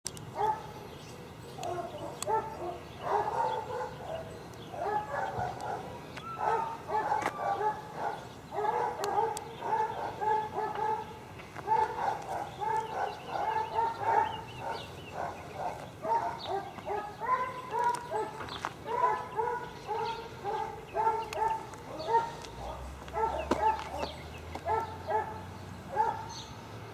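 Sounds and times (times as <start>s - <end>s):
dogs barking: 0.3s - 26.5s.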